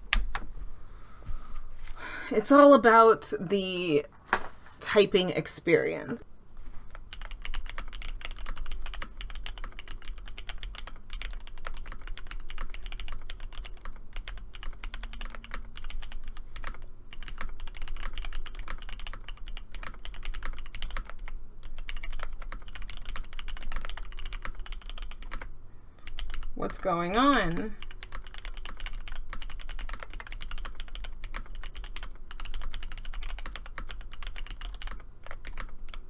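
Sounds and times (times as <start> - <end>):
mechanical keyboard typing: 6.9 - 36.0.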